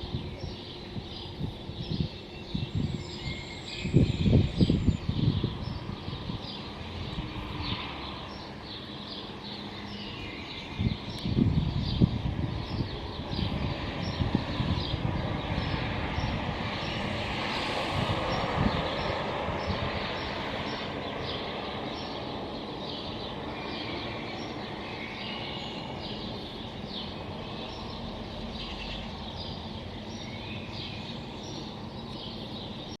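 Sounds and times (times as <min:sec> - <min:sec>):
city traffic noise: 0:00.0 - 0:33.0
small birds chirping: 0:00.0 - 0:33.0.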